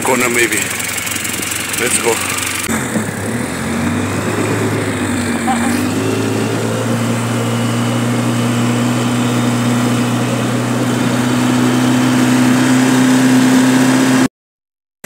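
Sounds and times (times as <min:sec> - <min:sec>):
all-terrain vehicle engine running: 0:00.0 - 0:14.3.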